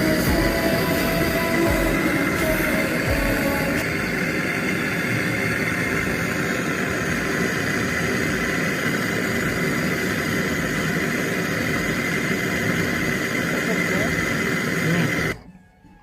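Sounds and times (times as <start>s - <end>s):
constant high whine: 0.0s - 16.0s
machine humming: 0.0s - 16.0s.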